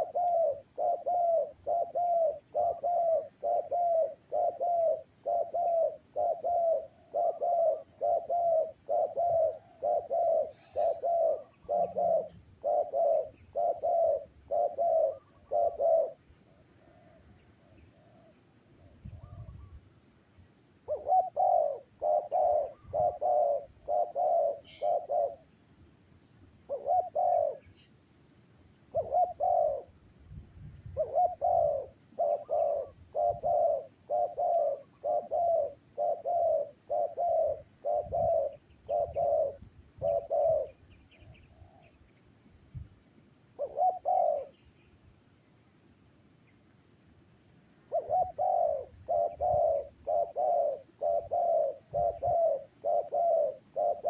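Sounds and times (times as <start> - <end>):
dove cooing: 0.0 - 19.8, 20.8 - 25.6, 26.6 - 28.0, 28.8 - 30.1, 30.7 - 42.0, 43.5 - 44.6, 47.8 - 54.0.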